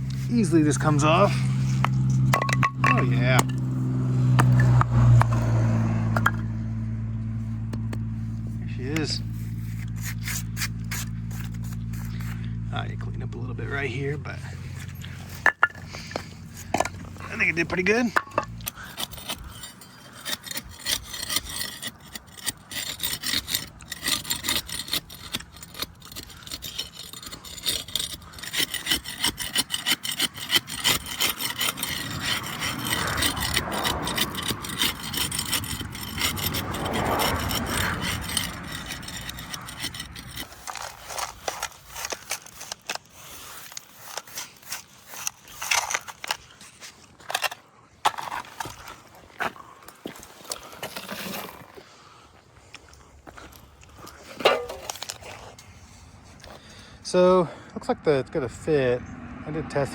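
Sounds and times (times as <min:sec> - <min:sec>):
hand tool scraping concrete: 0:00.0 - 0:03.7, 0:04.3 - 0:06.4, 0:08.2 - 0:51.9, 0:53.3 - 0:57.4.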